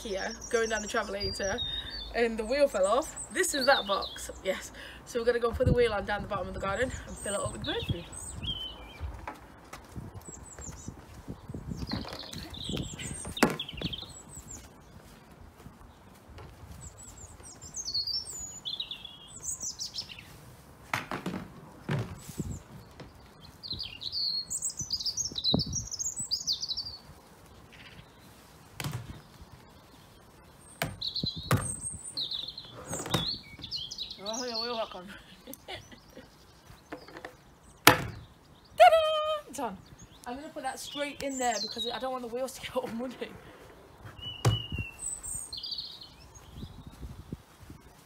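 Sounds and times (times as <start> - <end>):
small birds chirping: 0.0 - 20.8, 21.8 - 48.0.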